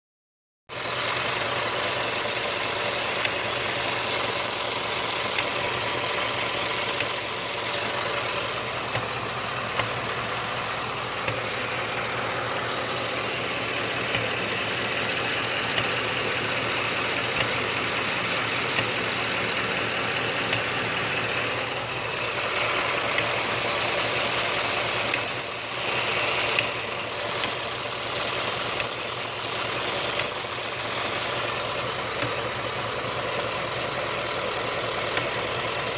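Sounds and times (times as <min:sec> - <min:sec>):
truck engine idling: 0:00.7 - 0:35.9.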